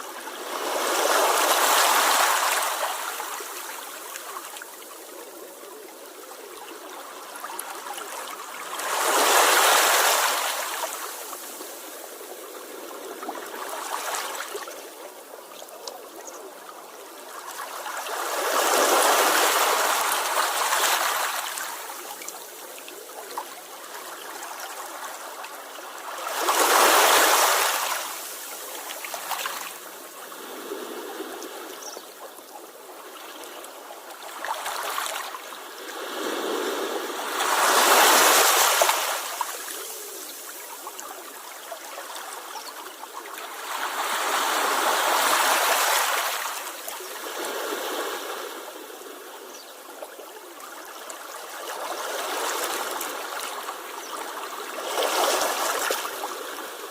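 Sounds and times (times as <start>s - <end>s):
sea waves washing ashore: 0.0s - 15.5s, 16.1s - 56.9s.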